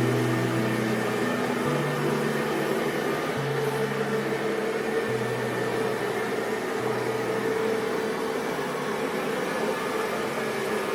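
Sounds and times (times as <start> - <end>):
robot vacuum whirring hum: 0.0 - 10.9.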